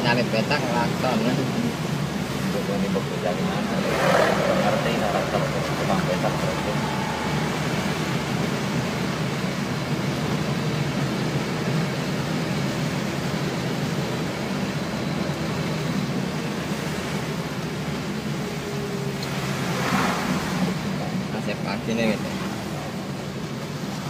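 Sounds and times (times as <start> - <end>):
tyre and road noise: 0.0 - 24.0
vehicle engine hum: 0.0 - 24.0.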